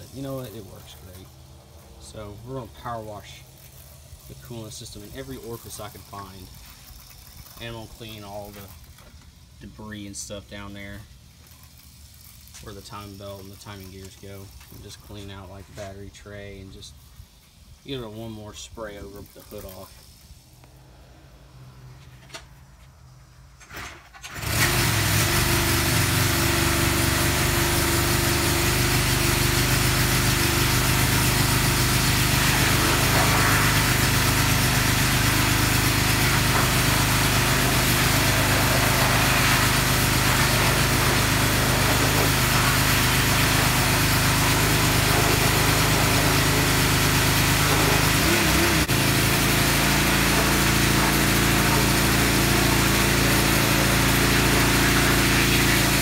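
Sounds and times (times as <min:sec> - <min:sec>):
water spray hissing: 0:00.0 - 0:20.7, 0:24.5 - 0:56.0
pressure washer engine running: 0:00.0 - 0:20.9, 0:24.3 - 0:56.0.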